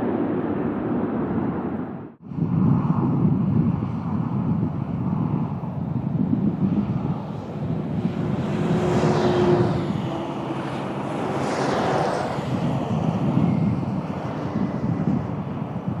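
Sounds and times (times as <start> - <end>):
jet engines rushing past: 0.0 - 16.0
wind buffeting microphone: 0.0 - 16.0.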